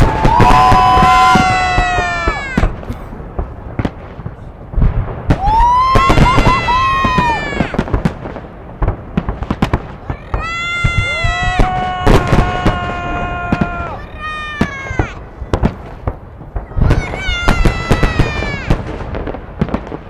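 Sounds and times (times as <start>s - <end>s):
firework bangs and crackles: 0.0s - 20.0s
firework whistling: 0.0s - 20.0s.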